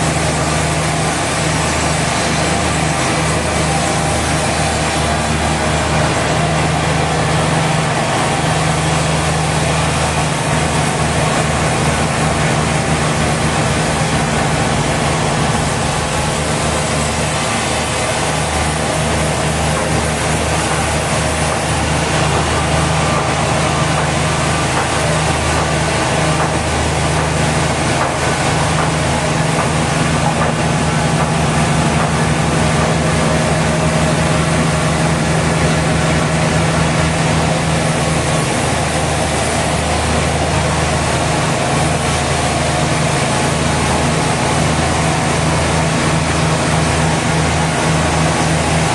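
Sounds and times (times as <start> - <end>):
sawmill machinery droning: 0.0 - 48.9.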